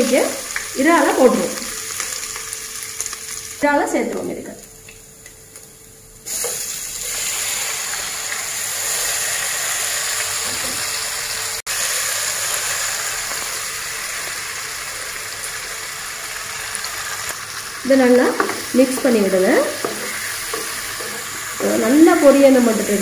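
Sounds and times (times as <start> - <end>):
prawns sizzling in hot oil: 0.0 - 23.0.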